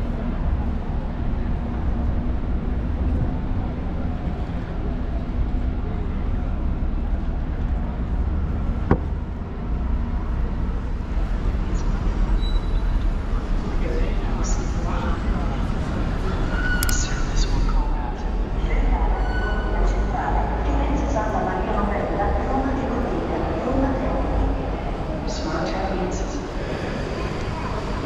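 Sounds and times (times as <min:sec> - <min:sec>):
low rumble of traffic: 0:00.0 - 0:28.0.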